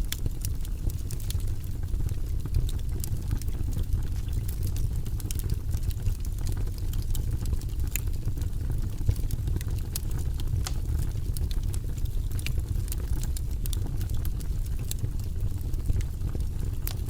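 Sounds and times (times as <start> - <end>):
fire crackling with pops: 0.0 - 17.0.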